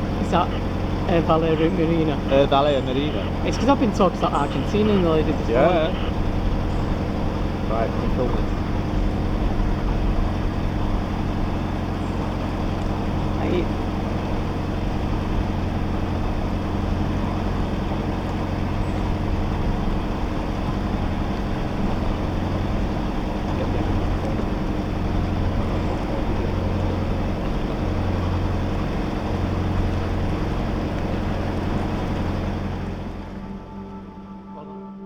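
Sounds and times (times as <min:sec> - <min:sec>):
boat engine low drone: 0:00.0 - 0:35.0.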